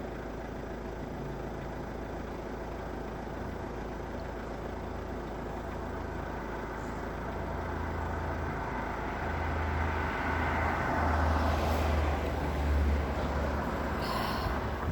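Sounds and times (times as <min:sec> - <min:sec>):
road noise: 0:00.0 - 0:14.9
vehicle engine running: 0:00.0 - 0:14.9.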